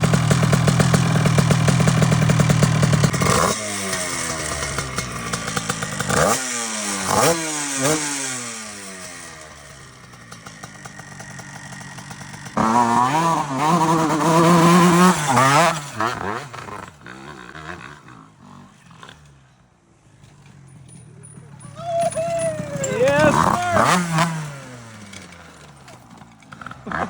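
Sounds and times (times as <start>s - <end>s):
two-stroke engine revving: 0.0s - 19.6s, 21.1s - 27.0s.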